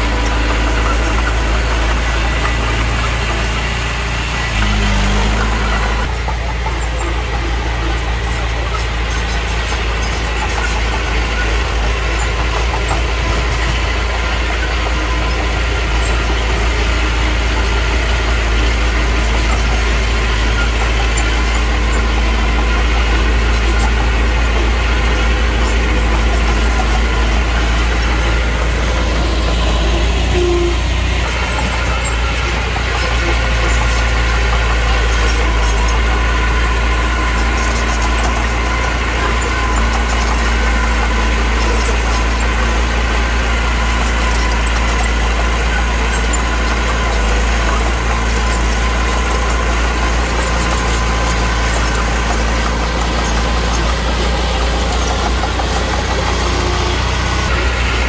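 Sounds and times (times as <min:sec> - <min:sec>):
heavy machine engine rumbling: 0:00.0 - 0:58.0.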